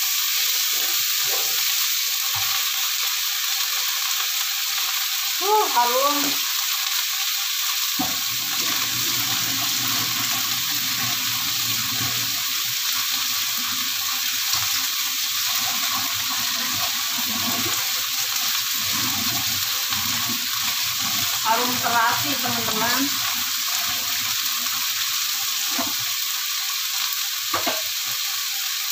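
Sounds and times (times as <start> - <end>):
leaves sizzling in a wok: 0.0 - 28.9.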